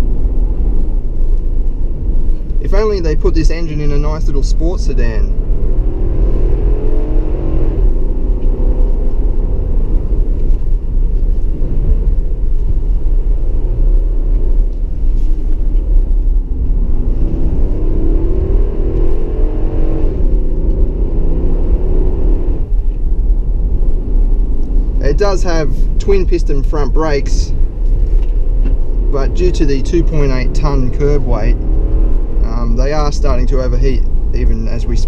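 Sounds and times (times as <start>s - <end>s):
car engine revving: 0.0s - 35.0s
low road rumble: 0.0s - 35.0s.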